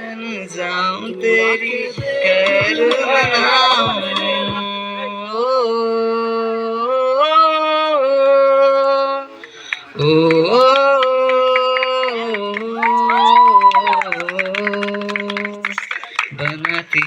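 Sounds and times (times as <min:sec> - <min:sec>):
man singing wordless long notes: 0:00.0 - 0:17.0.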